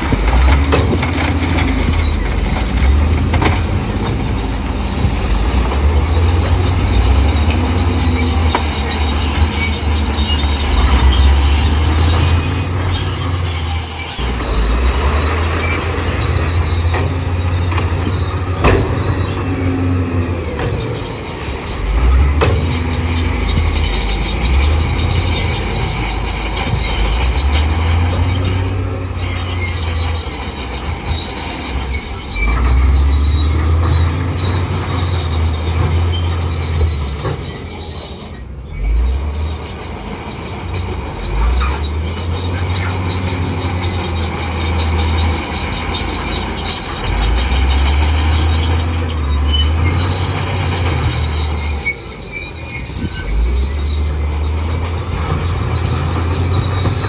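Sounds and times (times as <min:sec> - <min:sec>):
bulldozer diesel engine: 0:00.0 - 0:57.0
steel tracks squealing and clanking: 0:00.0 - 0:57.0.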